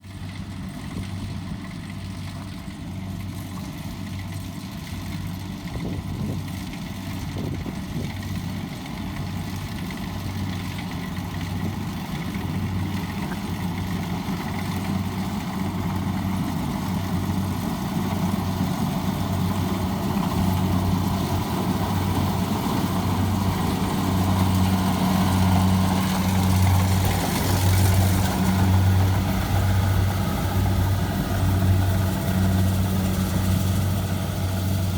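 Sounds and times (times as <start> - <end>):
combine harvester diesel engine: 0.0 - 34.9.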